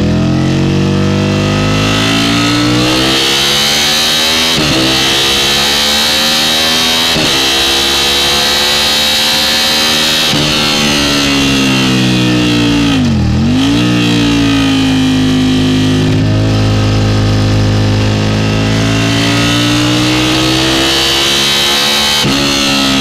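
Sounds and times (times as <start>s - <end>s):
motorcycle engine at speed: 0.0s - 23.0s.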